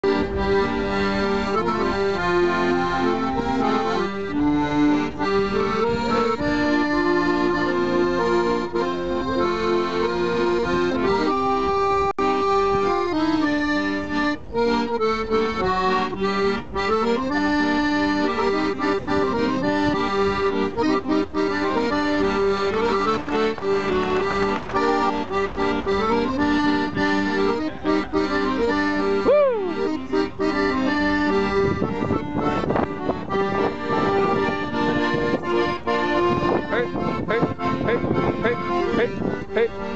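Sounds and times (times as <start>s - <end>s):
accordion playing tune: 0.0s - 39.9s.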